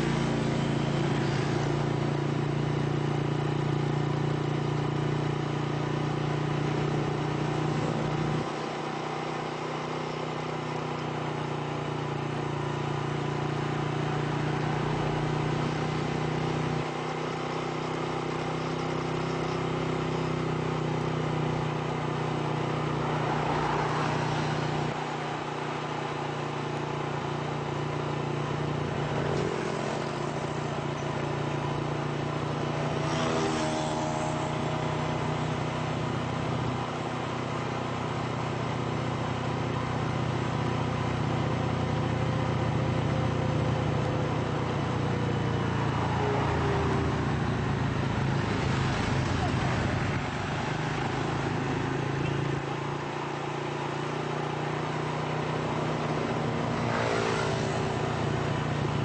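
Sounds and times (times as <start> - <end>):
passing vehicles: 0.0 - 59.0
road noise: 0.0 - 59.0
vehicle engine hum: 0.0 - 59.0.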